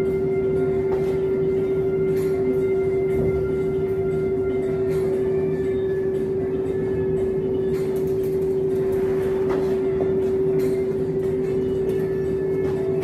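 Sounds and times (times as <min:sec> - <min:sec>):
electronic music drone: 0:00.0 - 0:13.0.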